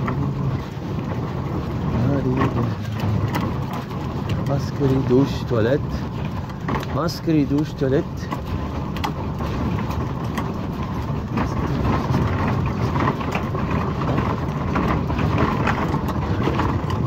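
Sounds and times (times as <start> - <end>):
luggage trolley wheels rolling on concrete: 0.0 - 17.0.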